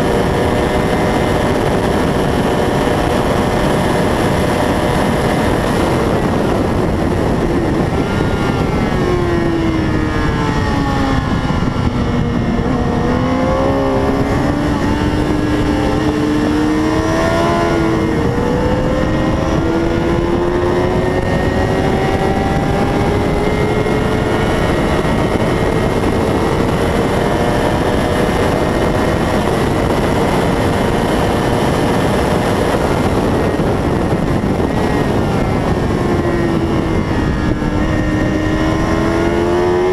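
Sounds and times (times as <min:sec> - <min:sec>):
motorcycle engine at speed: 0:00.0 - 0:39.9
wind noise rushing: 0:00.0 - 0:39.9.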